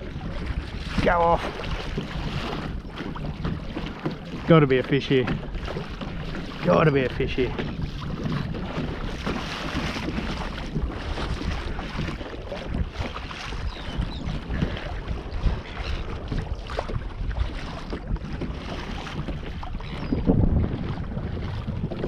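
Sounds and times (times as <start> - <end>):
water splashing and lapping: 0.0 - 22.0
wind buffeting microphone: 0.0 - 22.0.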